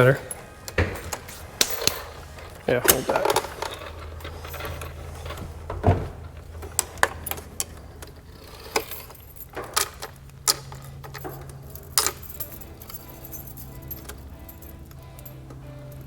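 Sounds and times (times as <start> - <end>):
metallic clicks and clinks: 0.0 - 16.0
steady low hum: 0.0 - 16.0.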